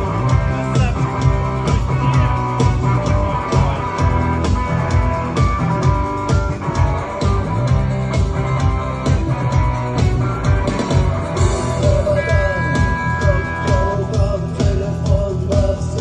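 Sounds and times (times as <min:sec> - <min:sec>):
bass notes: 0:00.0 - 0:16.0
picked electric guitar: 0:00.0 - 0:16.0
steady percussive beat: 0:00.0 - 0:16.0.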